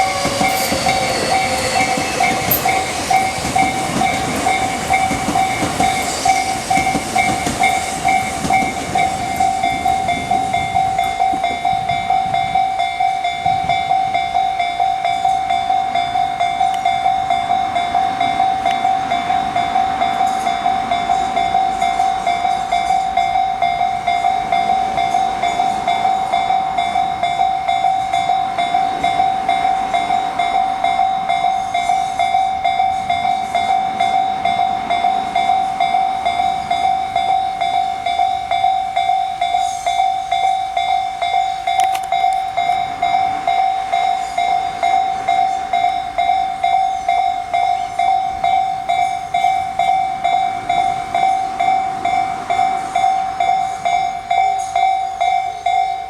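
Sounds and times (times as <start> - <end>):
level crossing warning bell: 0.0 - 56.0
passing train: 0.0 - 56.0.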